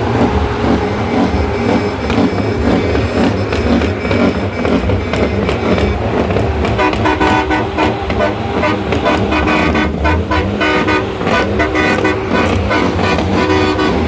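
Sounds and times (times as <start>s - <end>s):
truck engine running: 0.0s - 14.0s
vehicle horn blasts: 0.0s - 14.0s.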